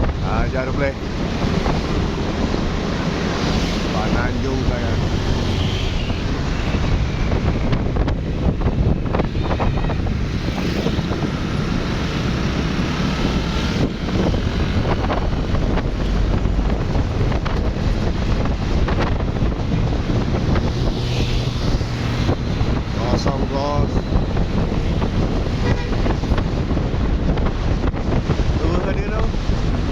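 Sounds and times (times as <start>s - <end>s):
vehicle running noise: 0.0s - 29.9s
wind buffeting microphone: 0.0s - 29.9s.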